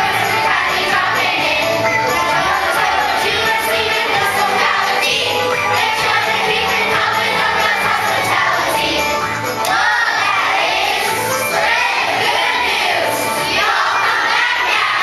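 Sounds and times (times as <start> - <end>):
children's choir singing: 0.0 - 15.0
musical accompaniment: 0.0 - 15.0.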